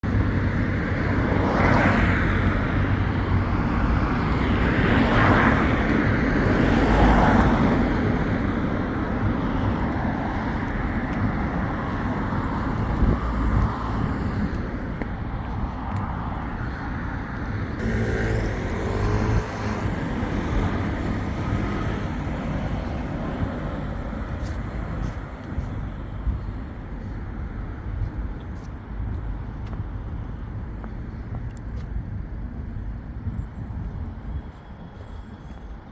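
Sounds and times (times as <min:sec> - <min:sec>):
road traffic passing: 0:00.0 - 0:33.1.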